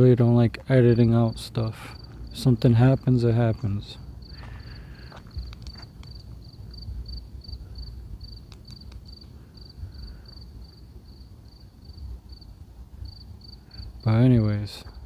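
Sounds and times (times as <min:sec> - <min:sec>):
low rumbling background noise: 0:00.0 - 0:15.0
cricket chirping: 0:00.6 - 0:15.0.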